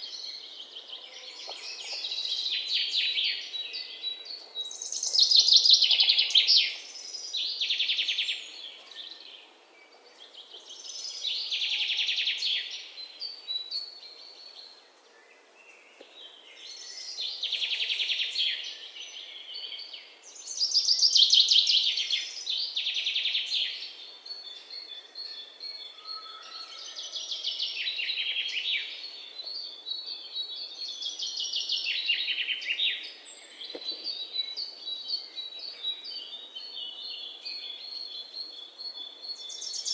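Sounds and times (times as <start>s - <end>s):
songbirds trilling chirps: 0.0s - 39.9s.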